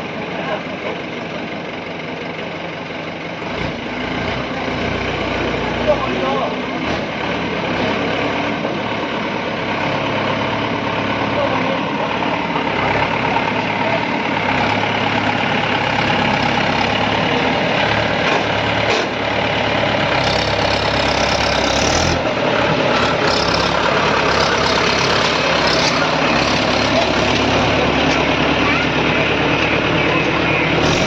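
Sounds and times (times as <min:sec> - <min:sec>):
heavy vehicle engine idling: 0:00.0 - 0:31.0.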